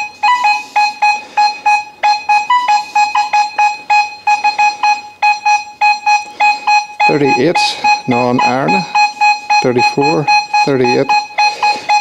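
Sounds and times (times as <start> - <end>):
metal detector beeping: 0.0 - 12.0.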